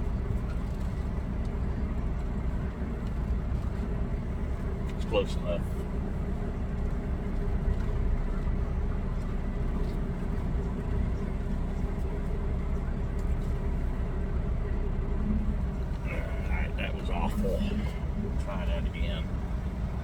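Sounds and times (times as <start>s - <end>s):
truck diesel engine rumbling: 0.0s - 20.0s.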